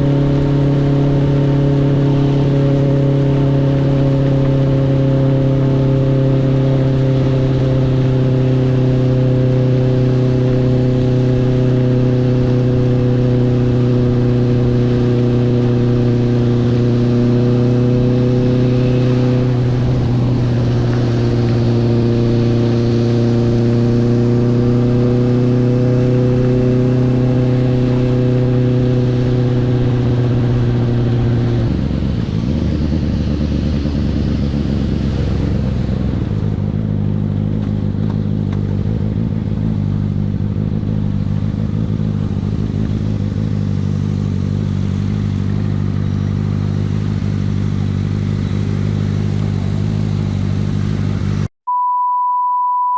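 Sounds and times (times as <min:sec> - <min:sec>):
motorcycle engine running: 0:00.0 - 0:51.5.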